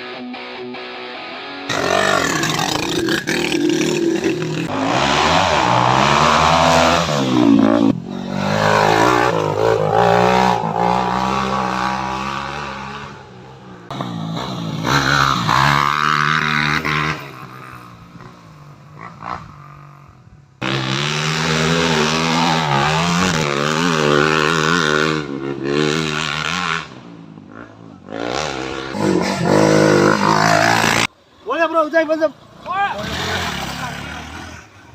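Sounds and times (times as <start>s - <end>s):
dirt bike engines revving: 1.7s - 34.9s.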